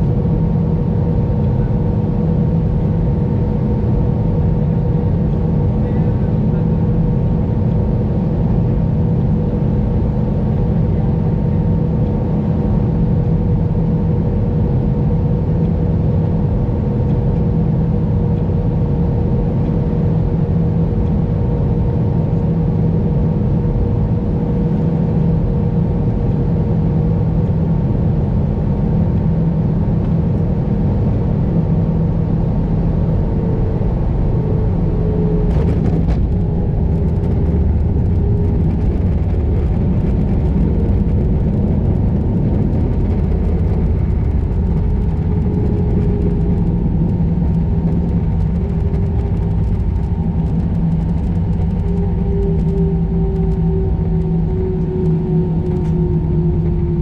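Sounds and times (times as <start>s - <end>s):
airplane cabin rumble: 0.0s - 57.0s
engine hum: 0.0s - 57.0s.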